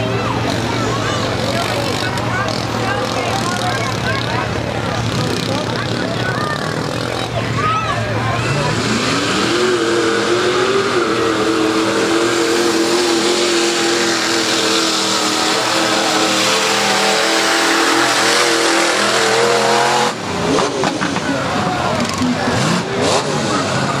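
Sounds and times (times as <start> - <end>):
engine at high revs: 0.0 - 24.0.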